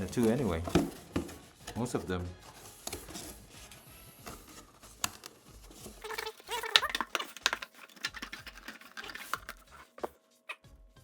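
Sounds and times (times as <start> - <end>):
packaging rustling and clicking: 0.0 - 10.2.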